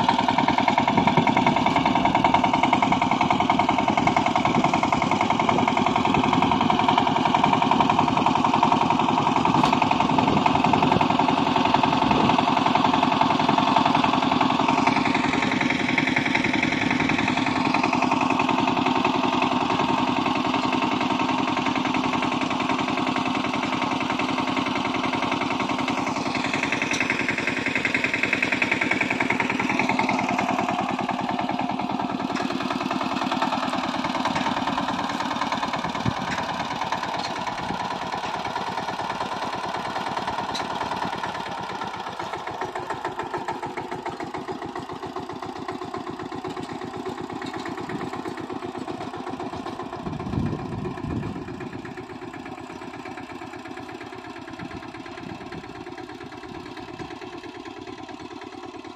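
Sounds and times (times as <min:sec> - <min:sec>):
diesel tiller engine chugging: 0:00.0 - 0:58.9.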